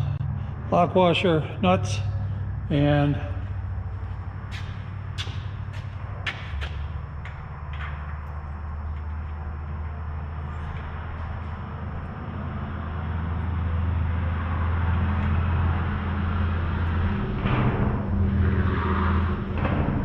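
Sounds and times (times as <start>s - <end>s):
low motor hum: 0.0s - 20.0s
rush of noise: 0.0s - 20.0s.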